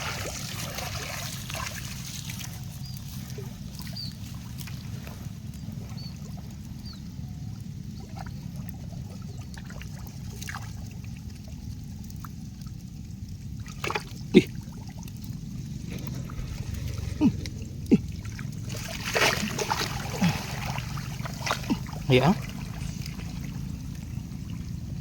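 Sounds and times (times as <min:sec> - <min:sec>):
creek water trickling and sloshing: 0:00.0 - 0:25.0
low rumble: 0:00.0 - 0:25.0
small splashes: 0:00.0 - 0:25.0.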